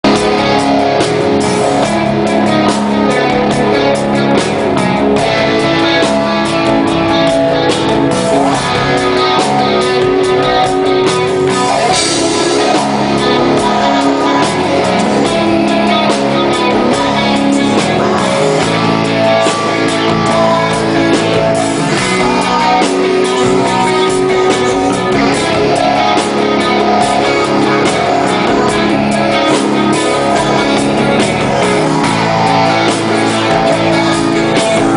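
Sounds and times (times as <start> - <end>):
electric guitars: 0.0 - 34.9
rock band playing live: 0.0 - 34.9.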